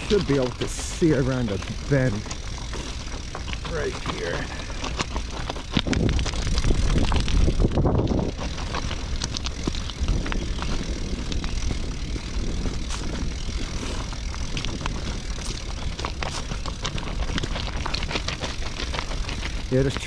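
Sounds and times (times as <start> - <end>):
footsteps crunching on gravel: 0.0 - 20.0
wind buffeting microphone: 0.0 - 20.0.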